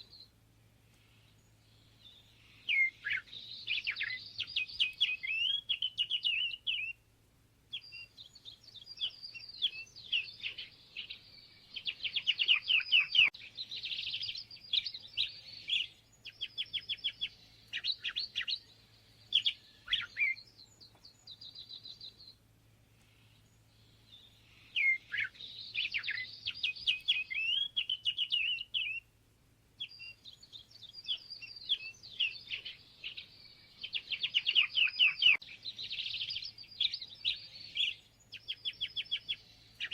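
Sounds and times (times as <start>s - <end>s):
songbird singing chirps and trills: 0.0s - 39.9s.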